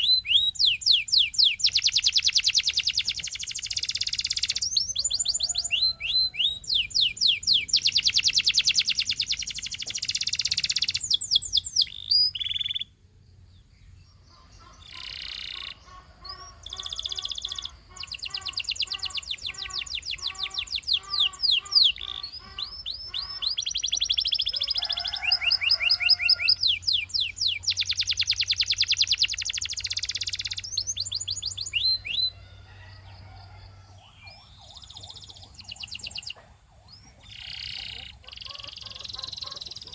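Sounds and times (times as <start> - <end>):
canary singing: 0.0 - 13.0, 13.6 - 39.9.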